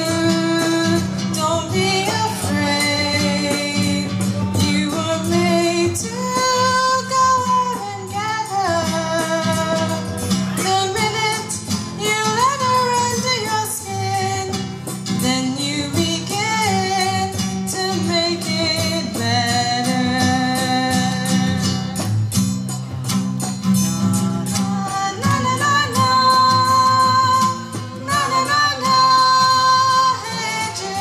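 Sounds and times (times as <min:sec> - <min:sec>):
woman singing slow melody: 0:00.0 - 0:22.0, 0:24.2 - 0:31.0
strummed acoustic guitar: 0:00.0 - 0:31.0.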